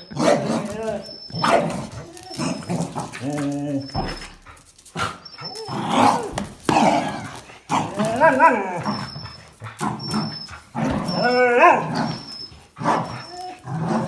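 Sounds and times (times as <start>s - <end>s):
dog whining: 0.0s - 14.0s
dogs growling: 0.0s - 14.0s.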